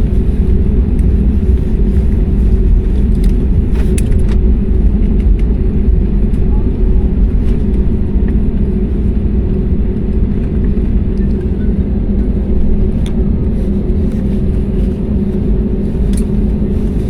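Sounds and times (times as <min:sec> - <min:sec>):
airliner cabin drone: 0:00.0 - 0:17.0.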